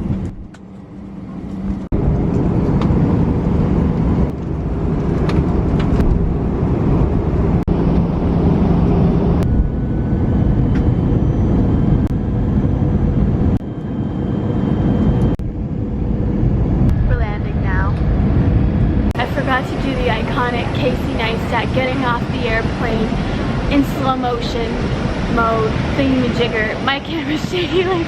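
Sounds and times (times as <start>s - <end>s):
faint humming tones: 0.0s - 28.0s
jet airliner cabin rumble: 0.0s - 28.0s.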